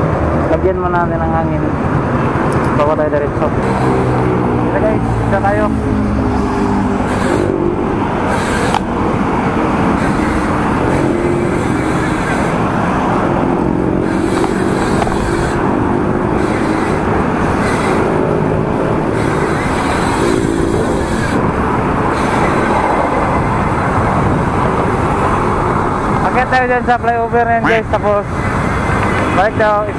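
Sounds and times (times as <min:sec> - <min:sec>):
motor vehicle engines: 0:00.0 - 0:29.9
road and traffic noise: 0:00.0 - 0:29.9.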